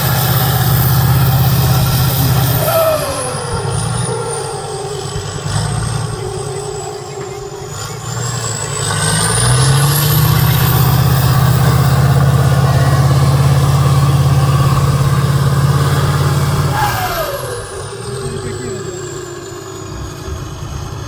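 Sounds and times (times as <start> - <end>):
high whine: 0.0 - 21.0
truck engine under heavy load: 0.0 - 21.0.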